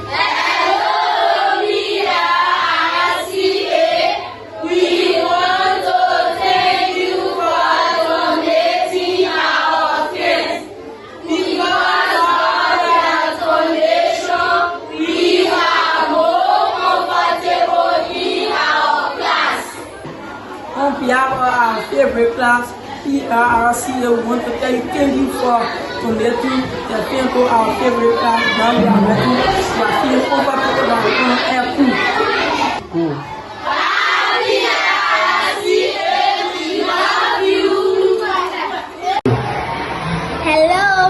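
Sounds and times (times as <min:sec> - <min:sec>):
children singing together: 0:00.0 - 0:20.4, 0:24.2 - 0:41.0.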